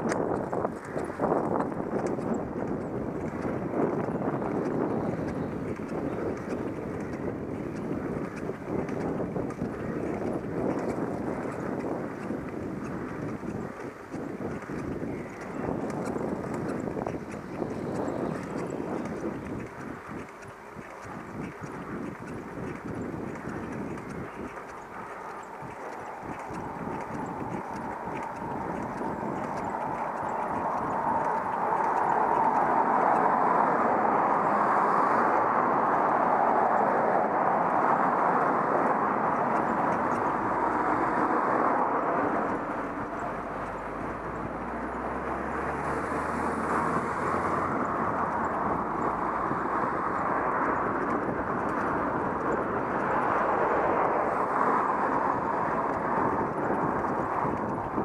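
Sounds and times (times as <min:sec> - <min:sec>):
vehicle ride noise: 0:00.0 - 0:58.0.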